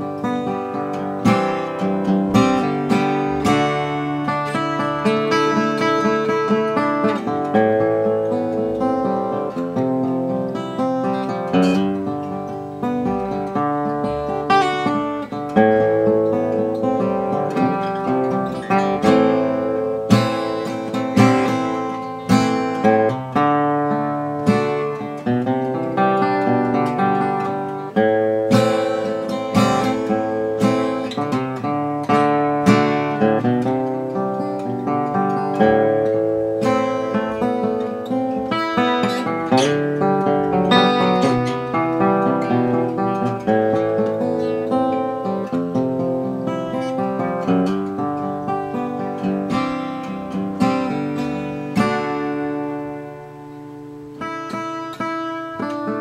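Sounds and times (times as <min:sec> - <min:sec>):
fingerpicked acoustic guitar: 0:00.0 - 0:56.0.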